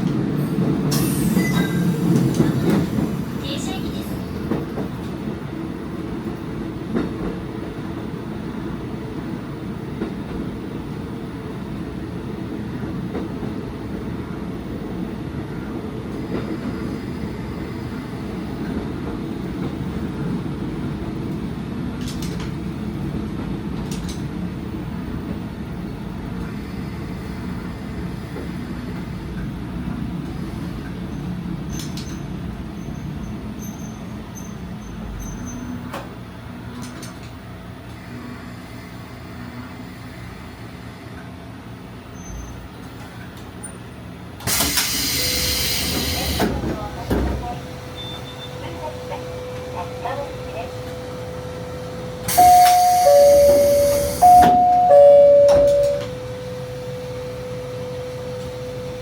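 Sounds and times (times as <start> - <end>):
railcar engine and wheels rumbling: 0.0 - 59.0.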